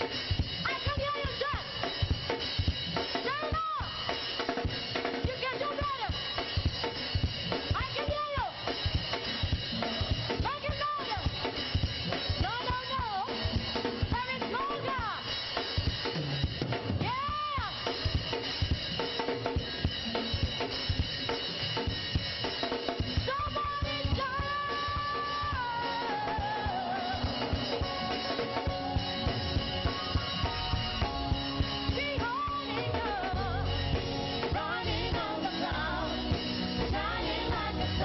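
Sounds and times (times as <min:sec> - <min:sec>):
drum kit beat: 0:00.0 - 0:38.0
live worship band music: 0:00.0 - 0:38.0.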